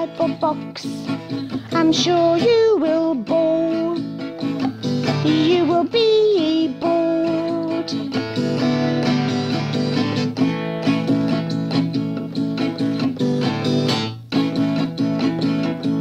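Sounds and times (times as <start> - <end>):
guitar strumming chords: 0.0 - 16.0.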